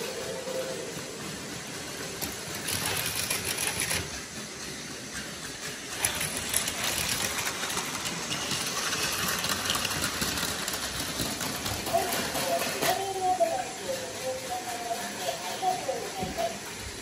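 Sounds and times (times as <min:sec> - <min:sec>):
toy train motors whirring: 0:00.0 - 0:17.0
toy trains rattling: 0:00.0 - 0:17.0.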